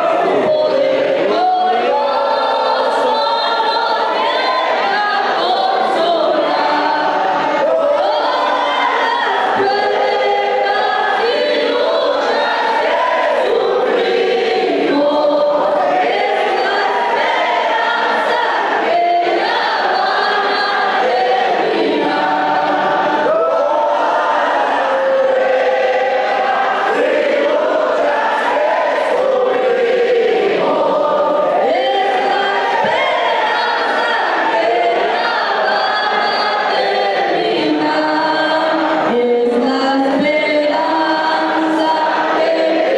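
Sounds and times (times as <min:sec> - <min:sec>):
mixed choir singing gospel: 0:00.0 - 0:42.9.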